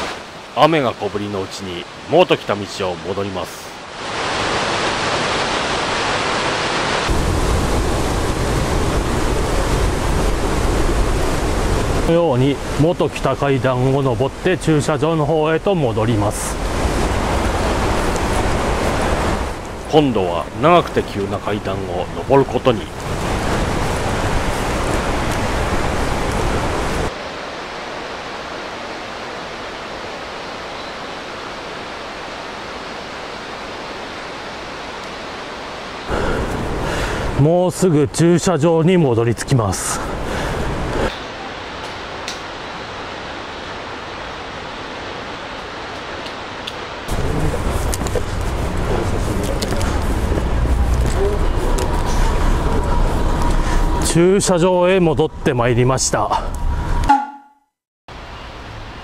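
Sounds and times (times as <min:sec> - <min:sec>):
waterfall rushing: 0:00.0 - 0:54.6.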